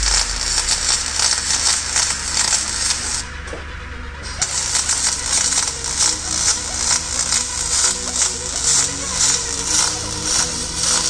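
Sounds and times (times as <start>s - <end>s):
welding arc crackling hiss: 0.0s - 3.6s, 4.2s - 11.0s.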